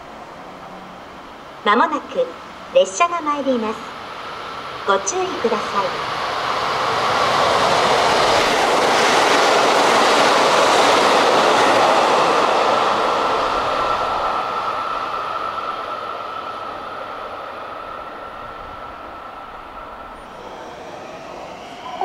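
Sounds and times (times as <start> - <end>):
diesel train passing: 0.0 - 22.0.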